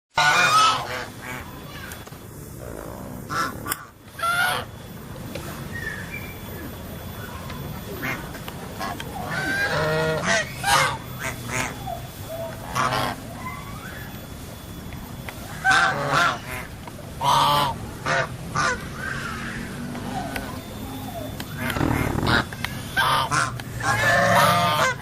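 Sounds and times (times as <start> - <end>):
geese honking: 0.1 - 2.0, 2.6 - 14.6, 15.3 - 25.0.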